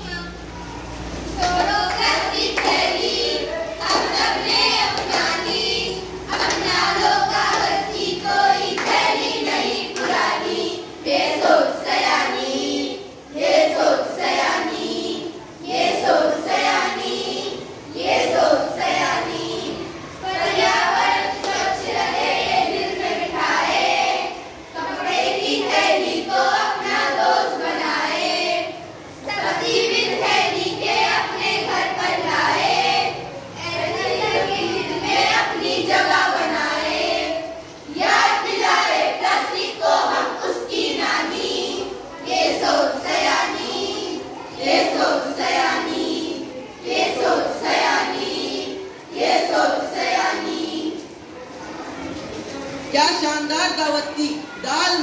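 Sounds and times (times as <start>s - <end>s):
children singing in chorus: 0.0s - 51.6s.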